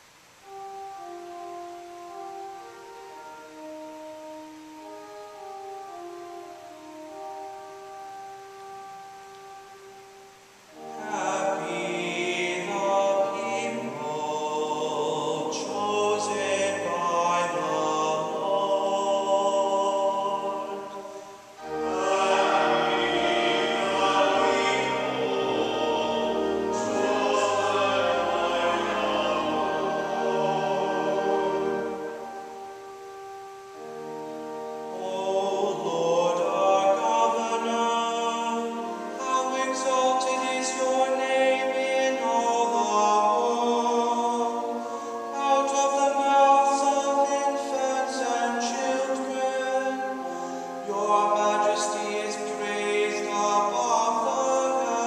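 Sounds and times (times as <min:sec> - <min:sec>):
pipe organ: 0:00.0 - 0:55.0.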